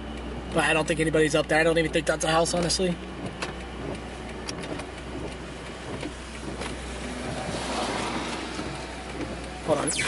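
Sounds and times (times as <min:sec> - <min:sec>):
cabin road noise rush: 0:00.0 - 0:10.0
car engine humming: 0:00.0 - 0:10.0.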